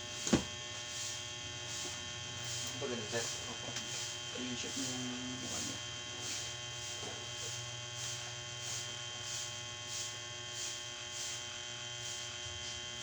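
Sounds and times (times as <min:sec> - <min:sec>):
electrical hum: 0:00.0 - 0:11.4.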